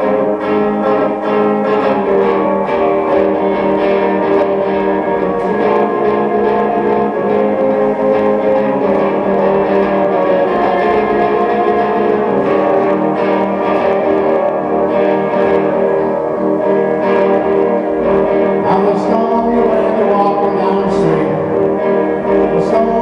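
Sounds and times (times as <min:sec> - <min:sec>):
plucked and strummed guitar: 0:00.0 - 0:23.0.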